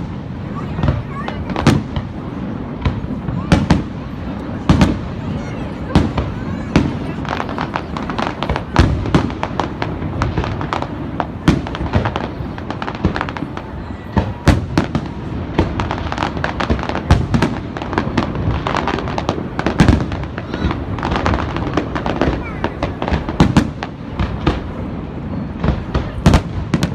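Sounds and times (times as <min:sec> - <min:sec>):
fireworks booming: 0:00.0 - 0:26.9
fireworks crackling: 0:00.0 - 0:26.9.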